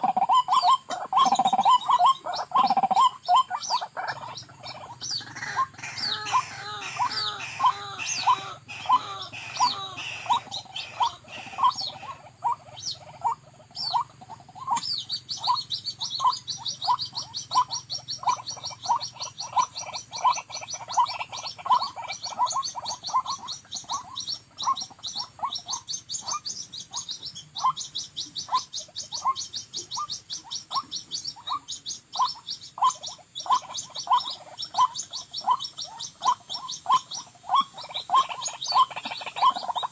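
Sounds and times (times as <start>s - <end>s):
faint high insect-like whine: 0.0s - 39.9s
waterhen calling: 0.0s - 39.9s.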